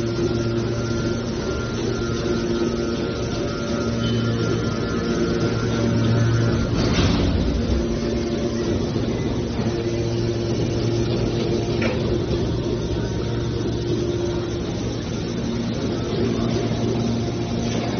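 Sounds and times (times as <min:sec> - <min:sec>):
hydraulic power unit humming: 0:00.0 - 0:17.9.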